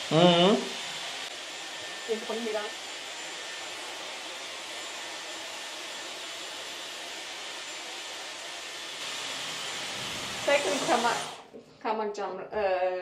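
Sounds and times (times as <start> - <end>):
hair dryer blowing: 0.0 - 11.5.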